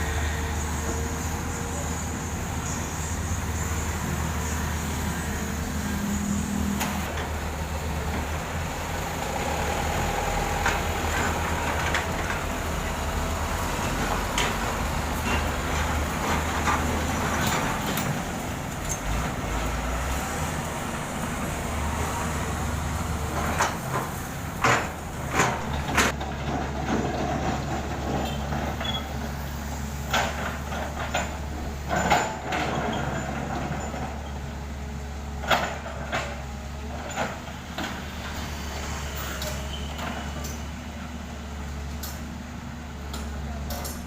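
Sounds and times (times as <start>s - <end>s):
diesel construction machinery running: 0.0s - 44.0s.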